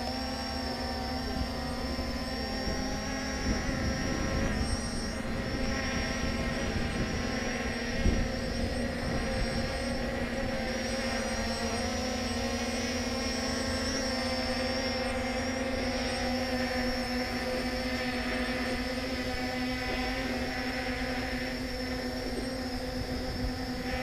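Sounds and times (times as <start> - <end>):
drone propellers humming: 0.0 - 24.0
wind rumbling on microphone: 1.2 - 24.0.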